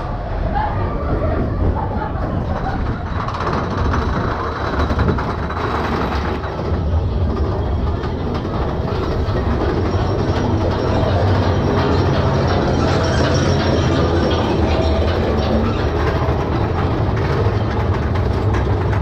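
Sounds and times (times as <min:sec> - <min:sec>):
roller coaster wheels rumbling on rail: 0:00.0 - 0:19.0
rattling and clattering: 0:01.1 - 0:19.0.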